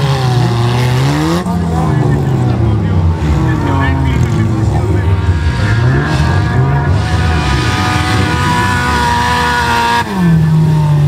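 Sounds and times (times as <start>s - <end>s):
car engines revving high: 0.0s - 11.0s.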